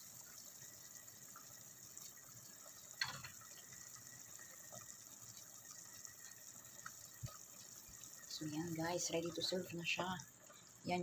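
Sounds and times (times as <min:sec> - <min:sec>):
porridge bubbling: 0:00.0 - 0:11.0.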